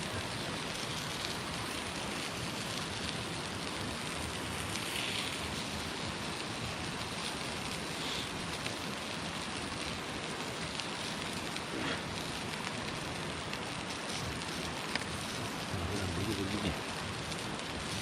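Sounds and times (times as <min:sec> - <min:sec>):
campfire hissing: 0:00.0 - 0:18.0
faint fire crackles: 0:00.0 - 0:18.0.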